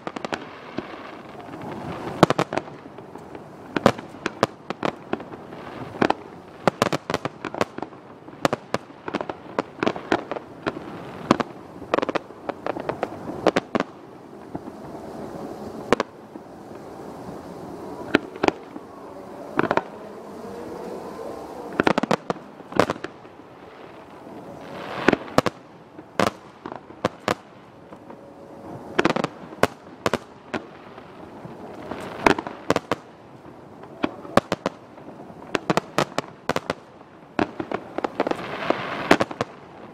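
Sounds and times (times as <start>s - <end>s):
fireworks bursting: 0.0s - 39.9s
fireworks crackle: 0.0s - 39.9s.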